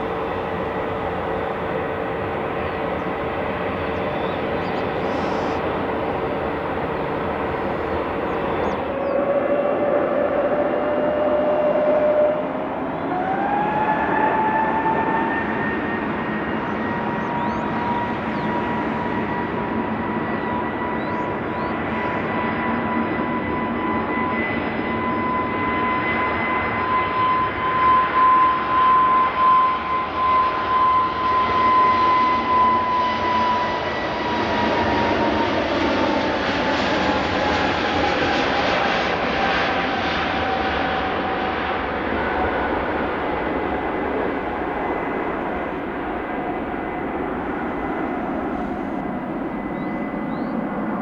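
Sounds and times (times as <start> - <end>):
aircraft engines whining: 0.0 - 51.0.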